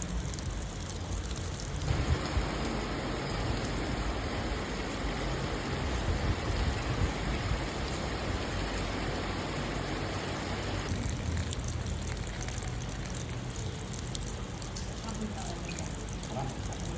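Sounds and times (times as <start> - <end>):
rain drizzle hissing: 0.0 - 16.9
raindrops pattering: 0.0 - 16.9.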